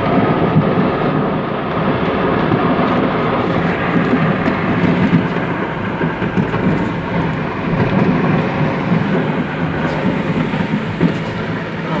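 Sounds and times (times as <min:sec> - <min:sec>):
fireworks crackling and rumbling: 0:00.0 - 0:12.0.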